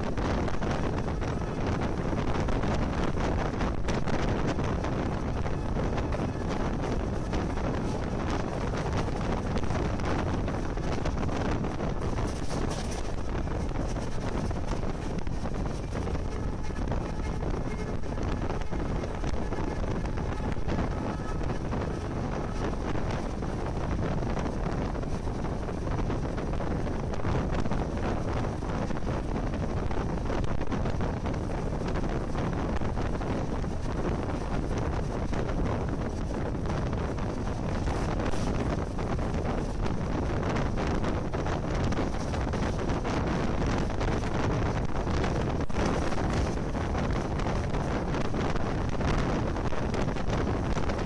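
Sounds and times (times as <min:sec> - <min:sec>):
moving train rumble: 0:00.0 - 0:51.0
wind buffeting microphone: 0:00.0 - 0:51.0.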